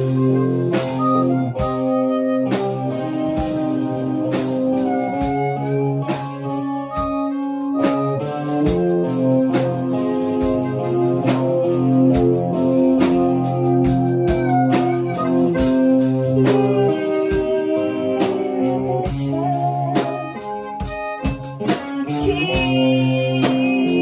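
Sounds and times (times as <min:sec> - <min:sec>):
electric guitar: 0:00.0 - 0:24.0
harmonica: 0:00.0 - 0:24.0
steady drum beat: 0:00.0 - 0:24.0.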